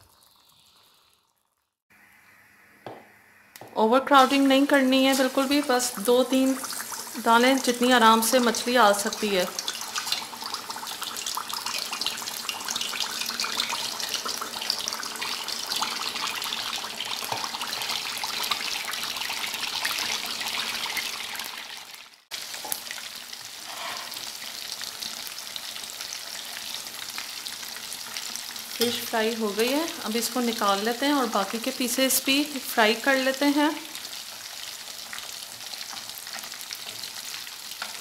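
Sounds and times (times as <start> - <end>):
fish deep-frying in oil: 0.0 - 38.0.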